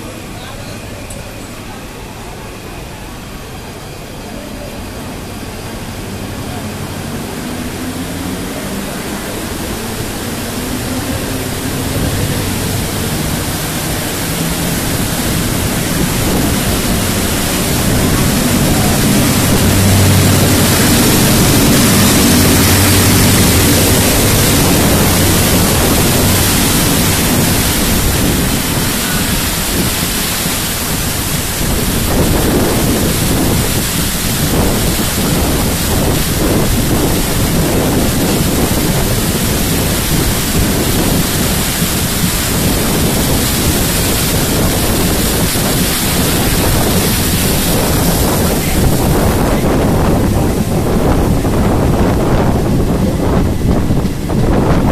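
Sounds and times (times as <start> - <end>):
train splashing through water: 0.0 - 54.9.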